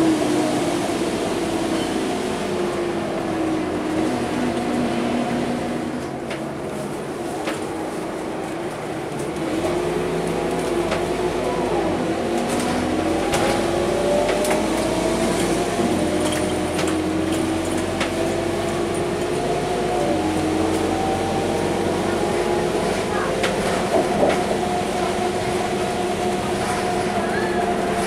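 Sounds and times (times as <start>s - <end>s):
bus engine accelerating: 0.0s - 28.0s.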